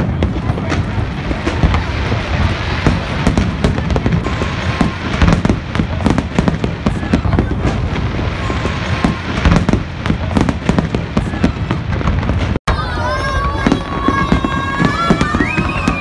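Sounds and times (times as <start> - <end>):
deep fireworks booms: 0.0 - 16.0
fireworks bangs and crackles: 0.0 - 16.0.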